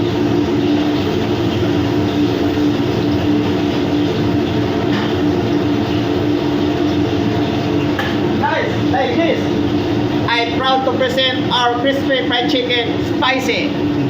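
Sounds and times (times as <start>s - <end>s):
loud machinery hum: 0.0s - 14.0s.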